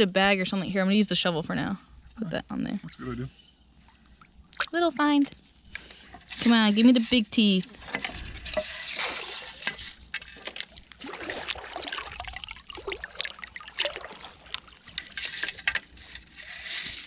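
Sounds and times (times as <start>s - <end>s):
water sloshing through gravel screen: 2.5s - 17.0s.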